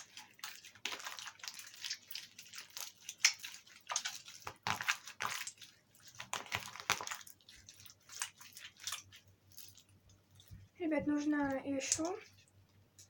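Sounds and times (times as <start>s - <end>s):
slime wet squishes: 0.0s - 13.0s.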